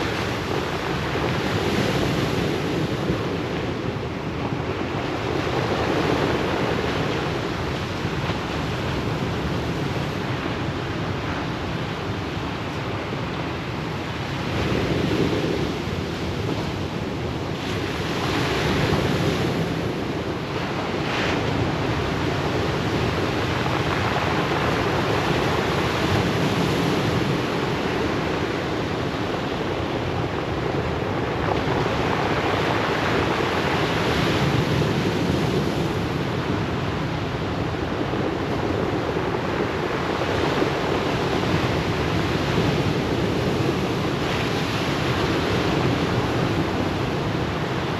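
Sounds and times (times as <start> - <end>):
ocean surf breaking: 0.0 - 47.9.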